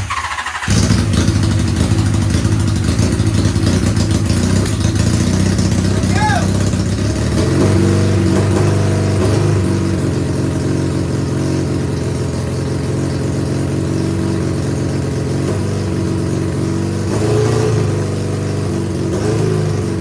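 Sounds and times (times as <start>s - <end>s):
motorcycle engine idling: 0.0s - 17.1s.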